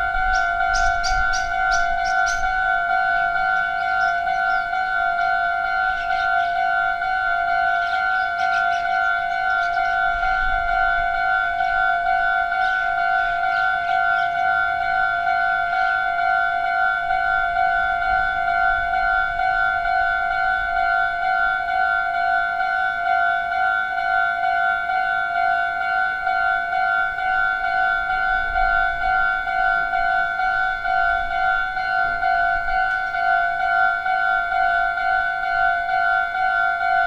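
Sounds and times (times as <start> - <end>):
level crossing warning bell: 0.0 - 37.0.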